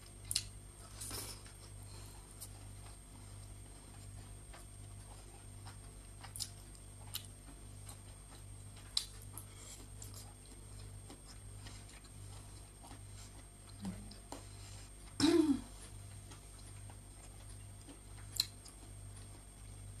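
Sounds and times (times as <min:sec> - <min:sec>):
broccoli being chewed: 0:00.0 - 0:20.0.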